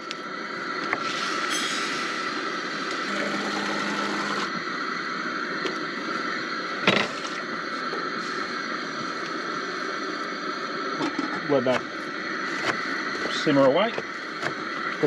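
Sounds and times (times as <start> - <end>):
gas stove burner hissing: 0.0 - 15.0.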